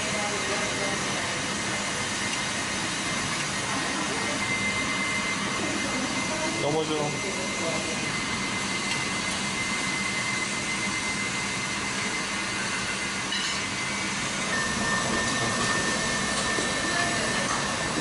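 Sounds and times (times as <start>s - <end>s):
thin steady whine: 0.0s - 18.0s.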